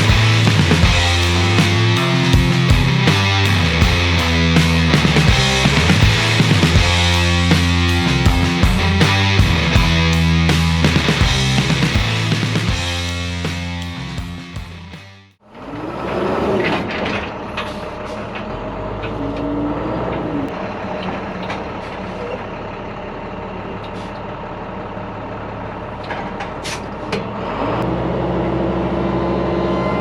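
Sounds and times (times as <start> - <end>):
heavy engine running and revving: 0.0 - 14.4, 15.6 - 30.0.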